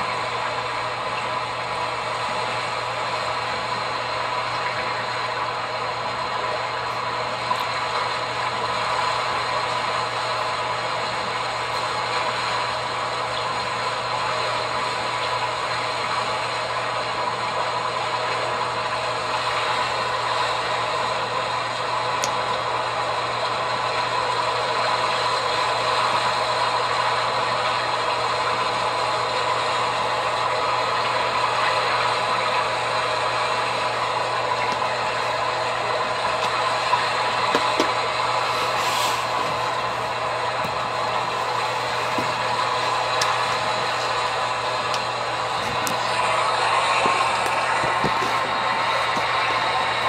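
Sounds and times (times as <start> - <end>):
motor drone with low hum: 0.0 - 50.0.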